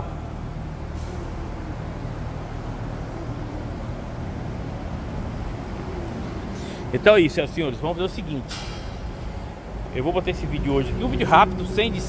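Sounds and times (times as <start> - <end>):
vehicle noise rumble: 0.0 - 12.0.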